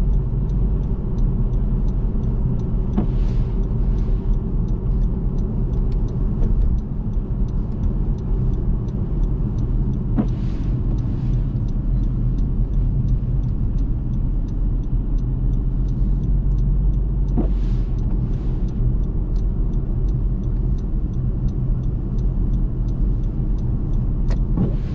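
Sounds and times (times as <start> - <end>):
low engine rumble: 0.0 - 24.9.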